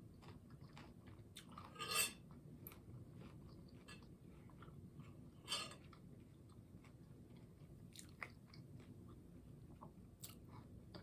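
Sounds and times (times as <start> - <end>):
soft chewing: 0.0 - 11.0.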